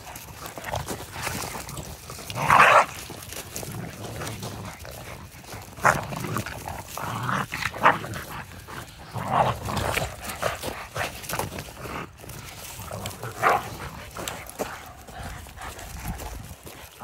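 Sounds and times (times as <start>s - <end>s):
dogs vocalizing while wrestling: 0.0s - 17.0s.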